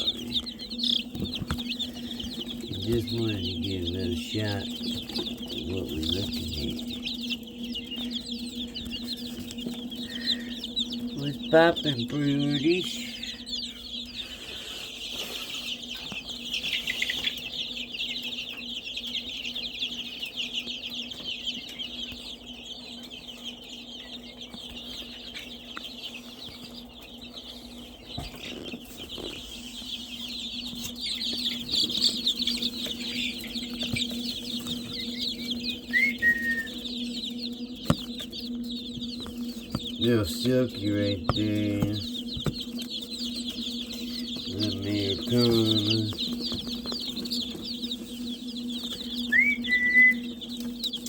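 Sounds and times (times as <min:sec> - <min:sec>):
baby chicks peeping: 0:00.0 - 0:51.0.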